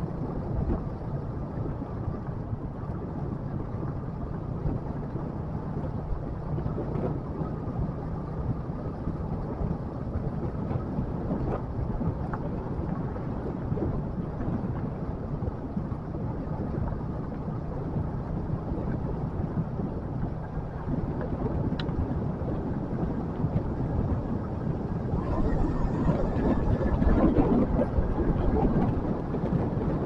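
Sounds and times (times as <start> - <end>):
motorcycle engine hum: 0.0 - 30.0
wind rumble on microphone: 0.0 - 30.0.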